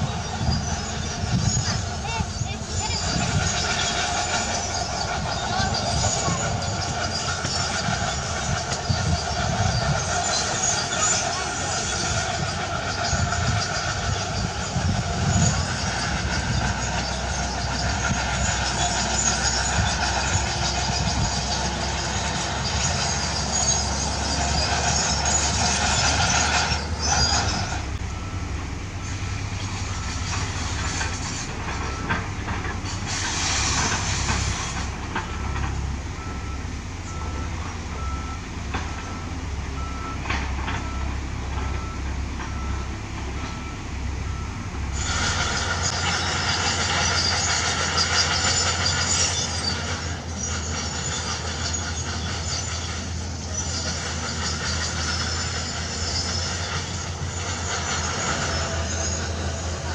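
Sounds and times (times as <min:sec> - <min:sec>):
heavy diesel engines running: 0:00.0 - 0:59.9
reversing alarm beeping: 0:03.0 - 0:32.3, 0:35.2 - 0:59.9.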